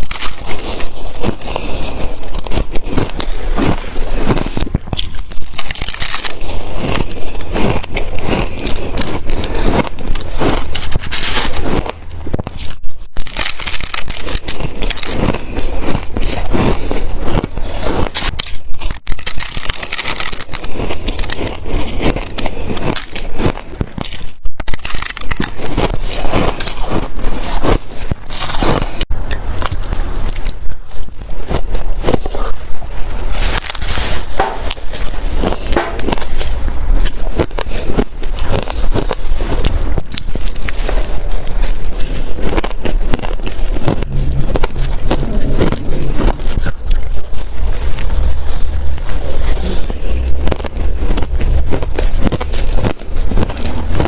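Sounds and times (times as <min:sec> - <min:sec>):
ice being chewed crunching: 0:00.0 - 0:54.0.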